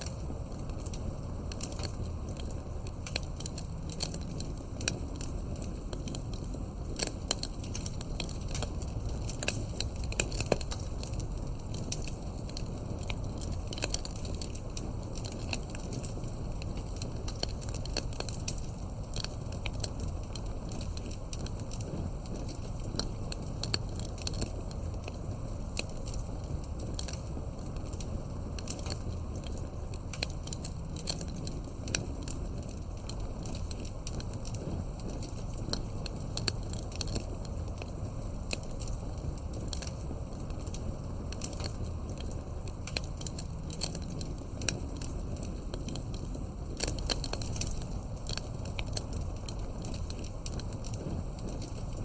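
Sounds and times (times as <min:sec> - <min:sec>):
campfire crackling: 0:00.0 - 0:52.0
low rumble of flames: 0:00.0 - 0:52.0.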